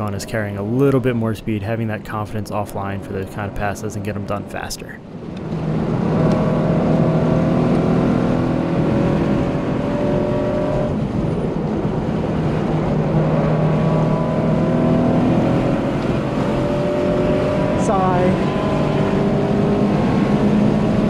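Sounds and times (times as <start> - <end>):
car engine revving: 2.5 - 21.0.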